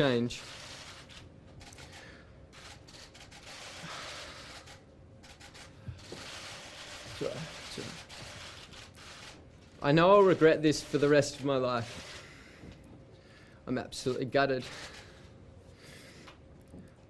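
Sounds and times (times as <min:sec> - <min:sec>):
room noise: 0:00.0 - 0:17.0.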